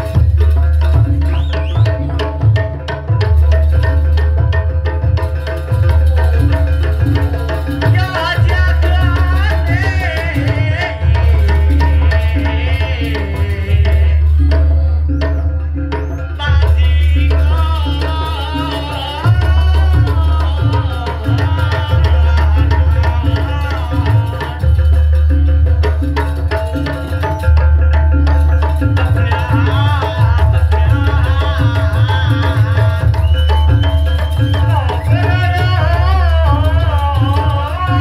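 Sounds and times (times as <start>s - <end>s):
hand drums: 0.0s - 38.0s.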